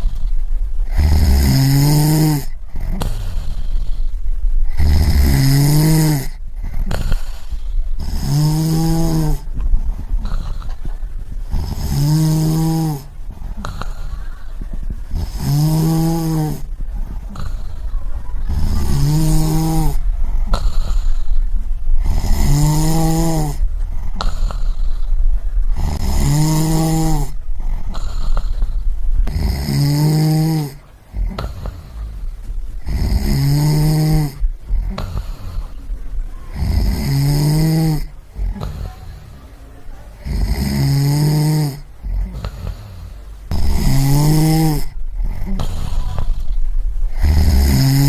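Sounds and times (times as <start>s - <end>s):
person snoring: 0.0s - 10.8s, 11.5s - 35.8s, 36.5s - 39.4s, 40.2s - 48.0s.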